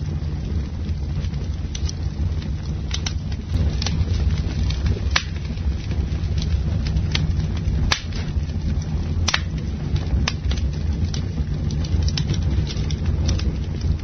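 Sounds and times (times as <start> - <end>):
campfire rumbling: 0.0 - 14.0
wood crackling and popping: 0.0 - 14.0.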